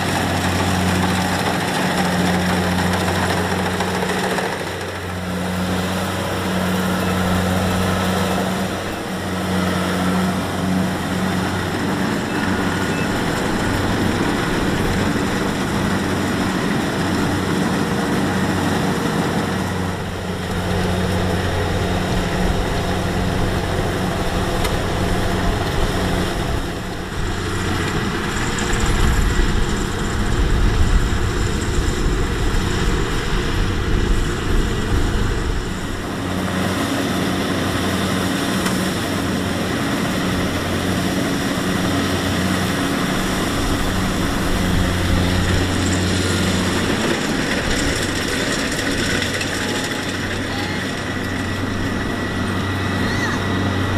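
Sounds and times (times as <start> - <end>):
deep uneven rumble: 0.0 - 36.8, 38.8 - 53.9
diesel engine low hum: 0.0 - 53.9.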